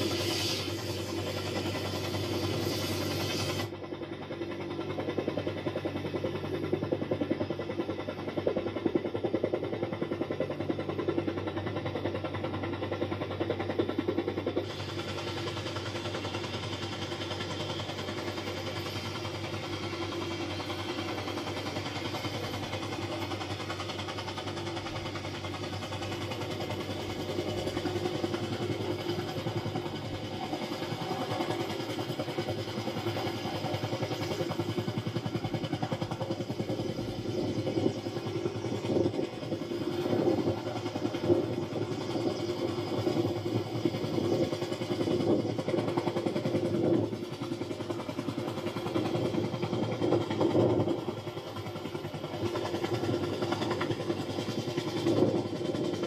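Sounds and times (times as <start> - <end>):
helicopter rotor blade chop: 0.0 - 56.0.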